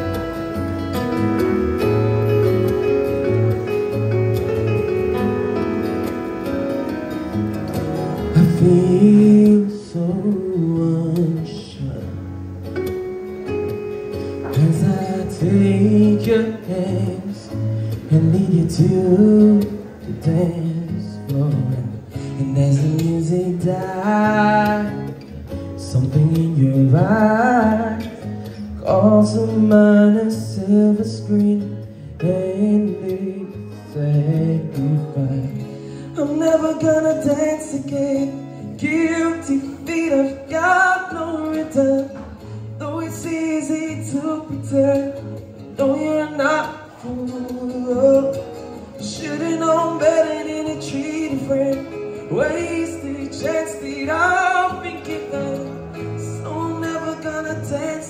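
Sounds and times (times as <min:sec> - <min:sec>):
electronic keyboard chords: 0:00.0 - 0:58.0
man singing into a microphone: 0:08.3 - 0:12.5, 0:14.2 - 0:58.0.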